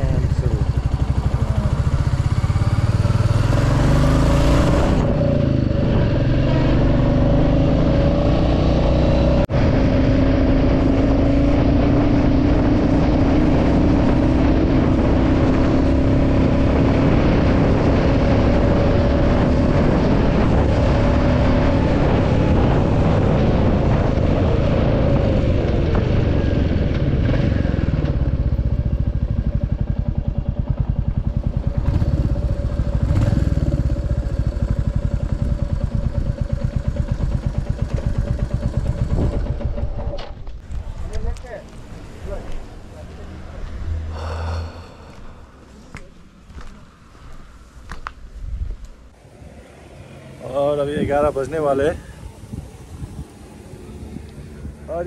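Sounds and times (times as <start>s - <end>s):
motorcycle engine running: 0.0s - 46.7s
wind noise on microphone: 1.6s - 41.4s, 47.9s - 49.7s, 50.7s - 55.0s.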